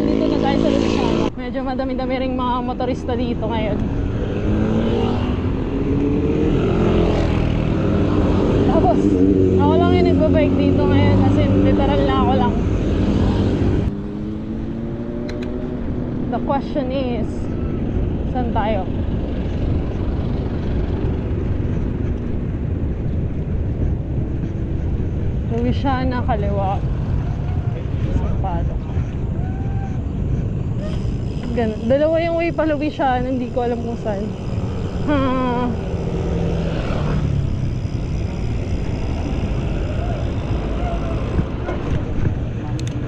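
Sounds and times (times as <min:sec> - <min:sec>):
low engine tone: 0:00.0 - 0:43.0
vehicle engine rumble: 0:00.0 - 0:43.0
wind buffeting microphone: 0:00.0 - 0:43.0.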